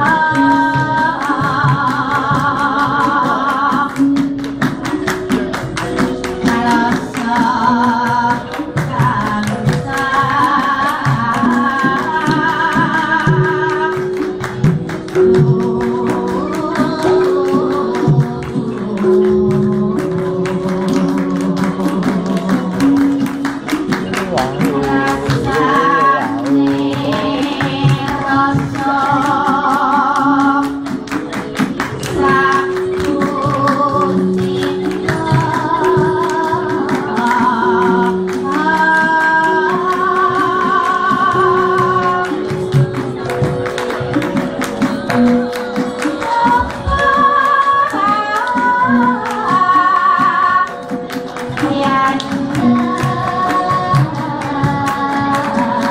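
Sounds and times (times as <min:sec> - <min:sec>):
drum strokes: 0:00.0 - 0:55.9
person singing with vibrato: 0:00.0 - 0:55.9.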